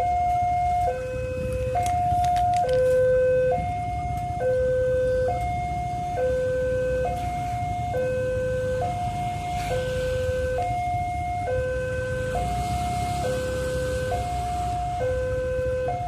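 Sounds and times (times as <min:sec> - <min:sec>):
two-tone siren: 0:00.0 - 0:16.0.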